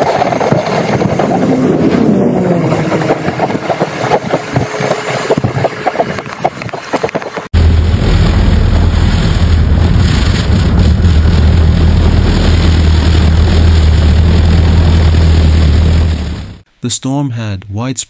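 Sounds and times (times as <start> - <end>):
engine humming: 0.0 - 16.7.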